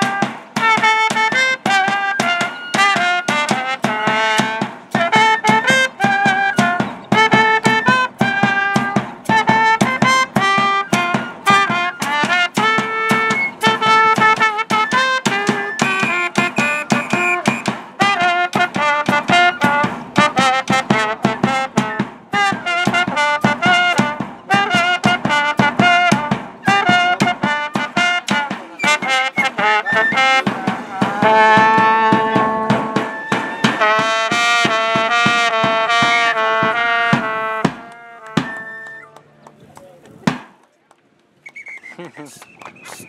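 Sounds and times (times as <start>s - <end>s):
bass drum beat: 0.0s - 39.2s
trumpet melody: 0.0s - 39.3s.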